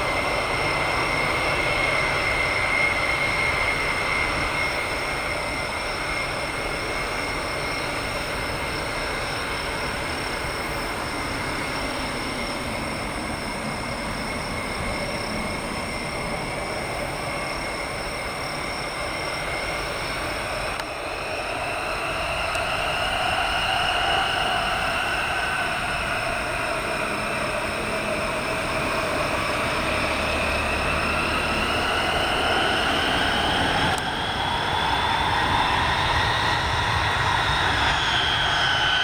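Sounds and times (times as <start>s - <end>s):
jet engines rushing with high whine: 0.0s - 39.0s.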